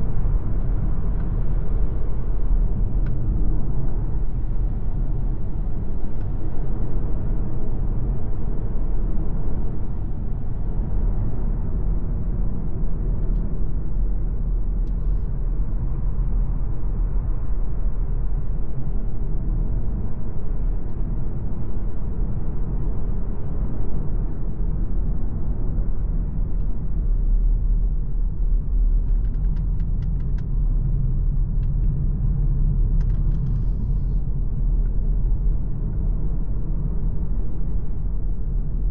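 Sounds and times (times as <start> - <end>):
car road and drivetrain rumble: 0.0 - 38.9.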